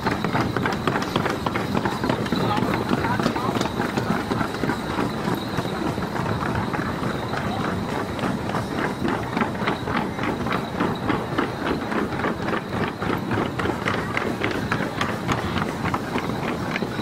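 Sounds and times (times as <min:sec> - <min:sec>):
crowd footsteps trotting: 0:00.0 - 0:17.0
crowd hubbub: 0:00.0 - 0:17.0.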